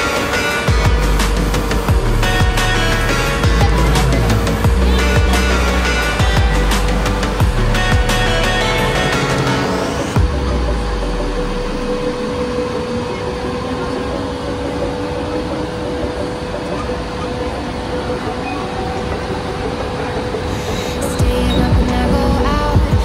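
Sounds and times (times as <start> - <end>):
electric train rumbling on rails: 0.0 - 23.0.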